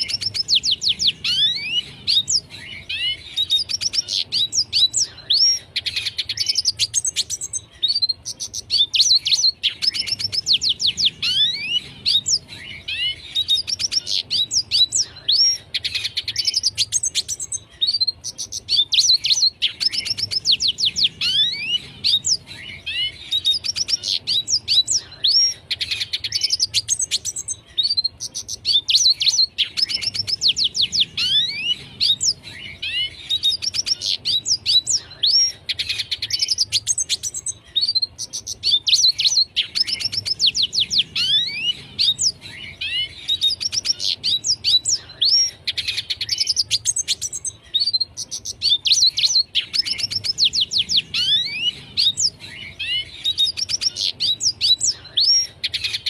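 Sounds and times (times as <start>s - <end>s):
bird singing twittering song: 0.0s - 56.0s.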